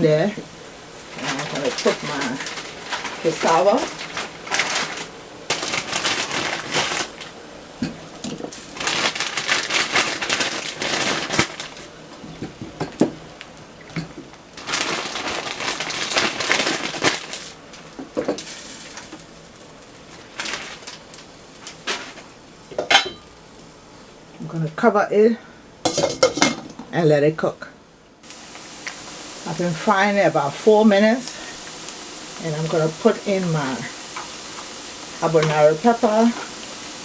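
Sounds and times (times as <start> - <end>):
crackling and rustling in boiling water: 0.0 - 37.0.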